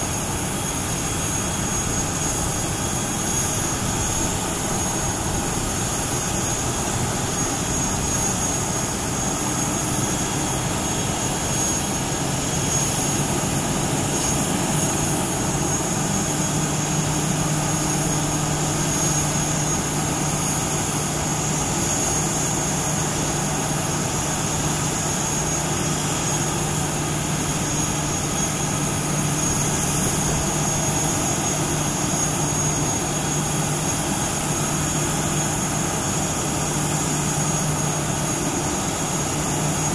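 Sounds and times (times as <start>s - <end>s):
jet engine rushing: 0.0s - 39.9s
turbine whine: 0.0s - 39.9s.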